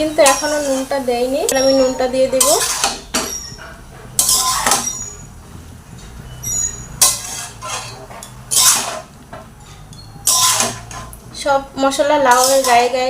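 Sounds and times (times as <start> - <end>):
spatula scraping a cooking pan: 0.0 - 11.2, 12.1 - 13.0.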